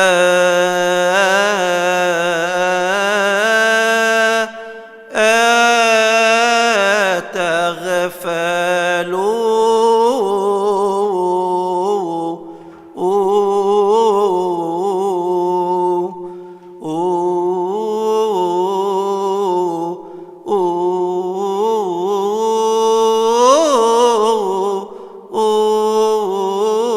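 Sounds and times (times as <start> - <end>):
man chanting a hymn: 0.0 - 26.9.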